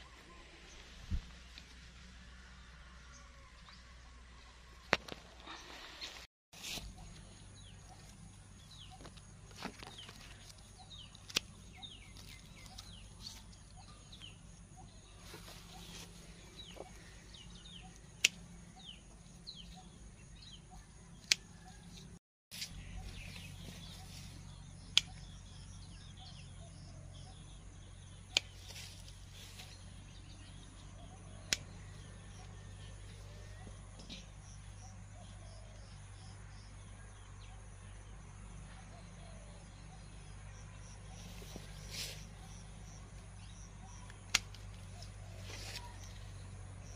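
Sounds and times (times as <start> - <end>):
birds chirping: 3.0 - 46.9.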